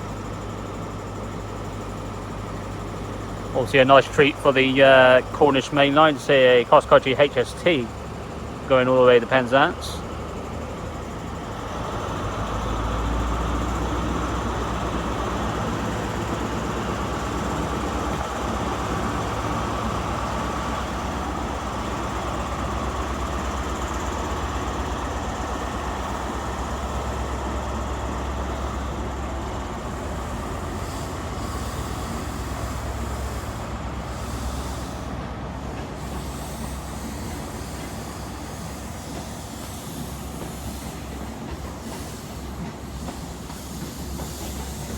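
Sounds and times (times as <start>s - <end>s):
diesel engine droning: 0.0s - 41.5s.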